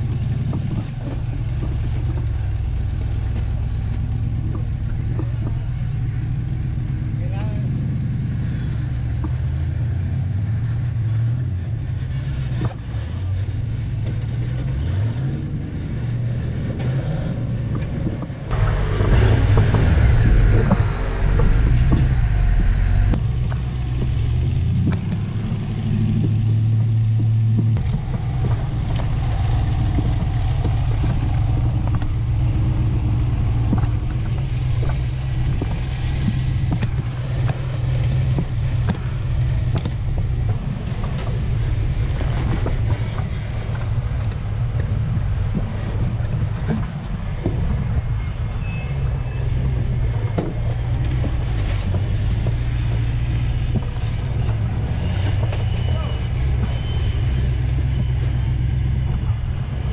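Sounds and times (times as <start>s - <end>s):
engines rumbling at low revs: 0.0s - 59.9s.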